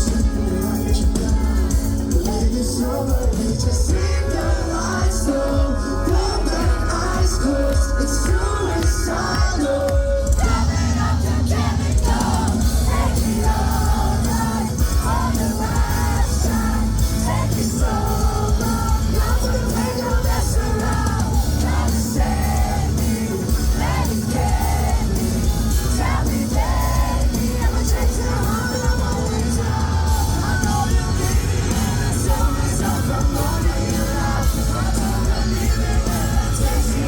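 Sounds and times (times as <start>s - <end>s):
live rock band playing: 0.0s - 37.0s
thick drums: 0.0s - 37.0s
yelled sung vocals: 0.0s - 37.0s.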